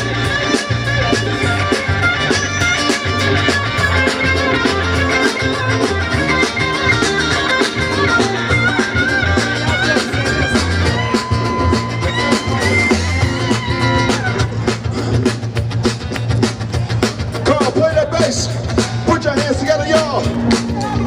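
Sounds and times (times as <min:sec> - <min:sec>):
live band playing instrumental: 0:00.0 - 0:21.0.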